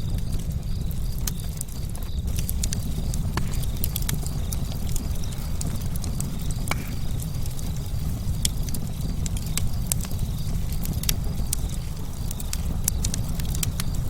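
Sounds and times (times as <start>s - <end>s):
campfire flames rumbling: 0.0s - 14.0s
fire crackles and pops: 0.0s - 14.0s.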